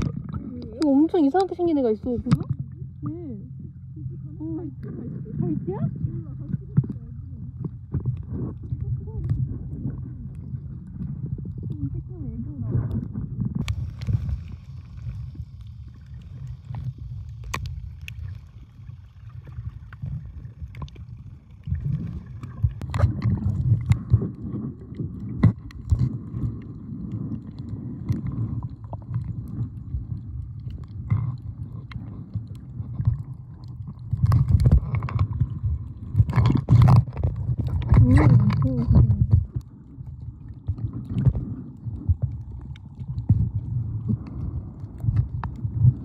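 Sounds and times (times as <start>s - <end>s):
underwater gurgling of moving water: 0.0s - 46.0s.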